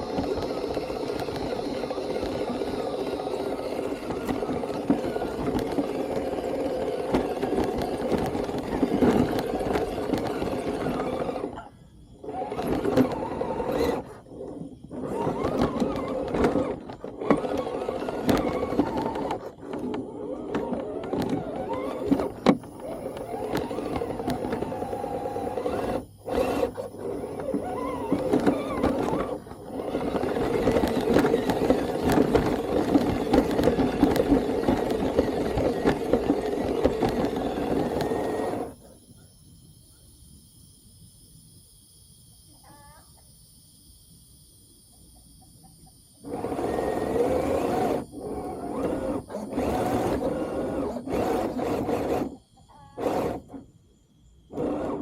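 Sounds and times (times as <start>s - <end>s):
toy car motor humming: 0.0s - 38.8s, 45.8s - 53.6s, 54.5s - 55.0s.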